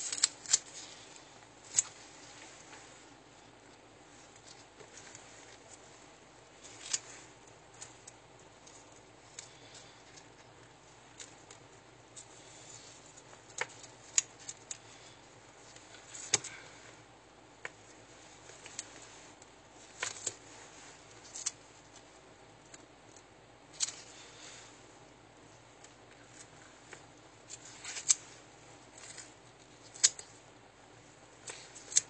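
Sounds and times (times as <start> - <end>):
tape rustling and crinkling: 0.0 - 16.8, 17.6 - 24.8, 25.5 - 30.4, 31.0 - 32.0.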